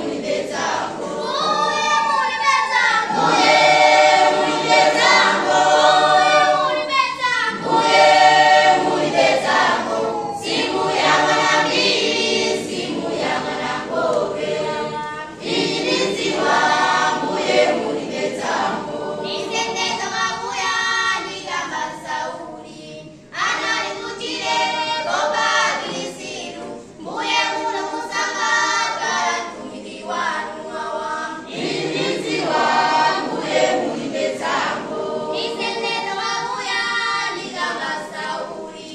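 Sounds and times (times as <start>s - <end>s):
choir singing unaccompanied: 0.0s - 38.9s.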